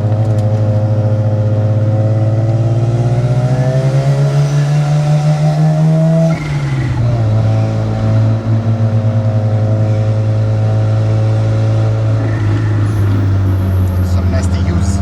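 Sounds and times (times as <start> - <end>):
rotary car engine accelerating: 0.0 - 15.0.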